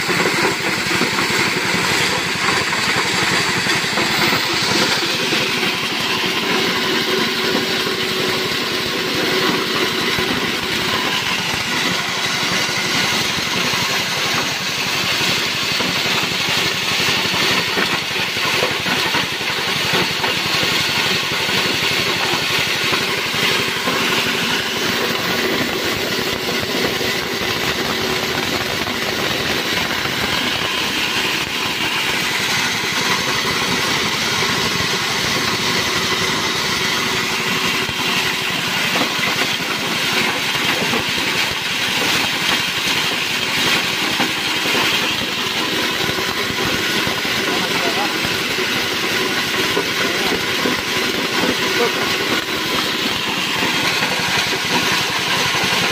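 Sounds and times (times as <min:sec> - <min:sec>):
chopper shredding material: 0:00.0 - 0:55.9
small petrol engine under load: 0:00.0 - 0:55.9.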